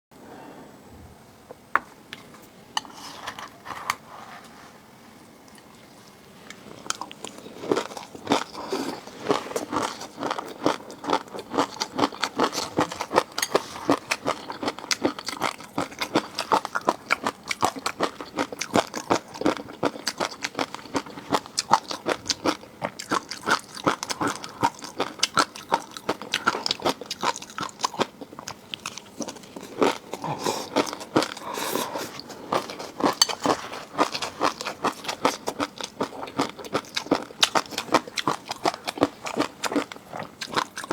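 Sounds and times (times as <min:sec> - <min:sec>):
crunching and chewing seafood: 0:05.4 - 0:40.9.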